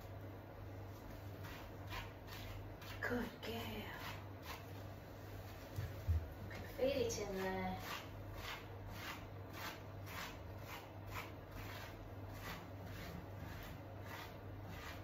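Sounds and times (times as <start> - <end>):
steady low hum: 0.0 - 15.0
hands scrubbing wet fur: 0.9 - 6.0, 7.1 - 15.0.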